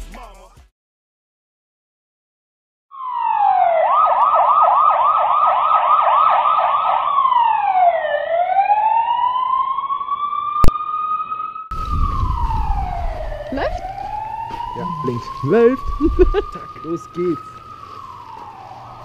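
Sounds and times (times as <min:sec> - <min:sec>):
police siren: 0:02.9 - 0:19.0.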